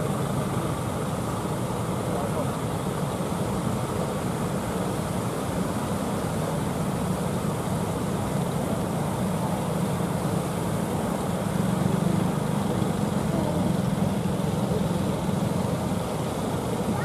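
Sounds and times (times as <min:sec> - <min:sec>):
boat engines droning: 0:00.0 - 0:17.0.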